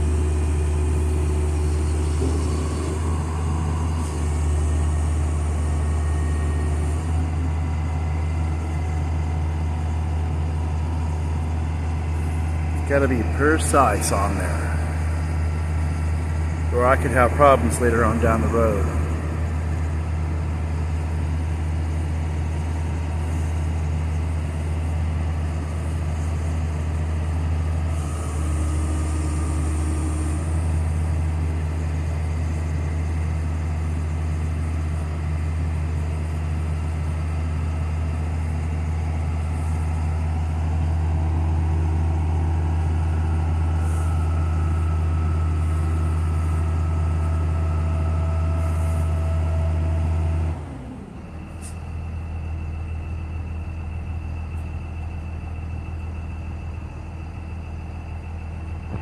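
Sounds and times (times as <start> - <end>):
heavy diesel engine idling: 0.0 - 59.0.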